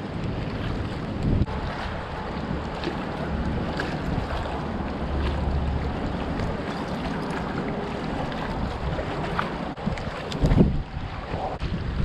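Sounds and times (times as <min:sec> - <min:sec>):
floodwater gushing from a pipe: 0:00.0 - 0:12.0
wind buffeting microphone: 0:00.0 - 0:12.0.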